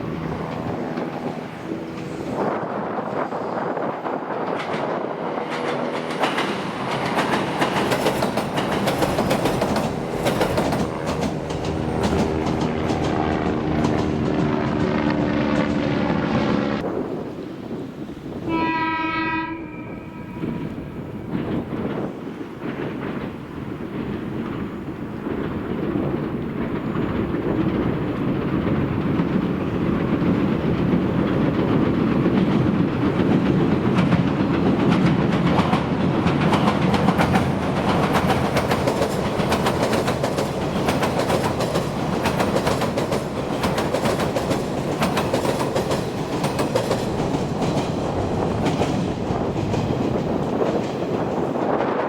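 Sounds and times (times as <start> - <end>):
train wheels rumbling on bridge: 0.0 - 52.0
wheels clicking over rail joints: 4.3 - 14.6, 20.4 - 51.8.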